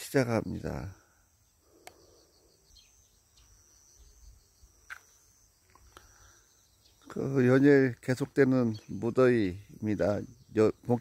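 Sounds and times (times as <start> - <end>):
high-pitched insect tone: 0.0 - 11.0.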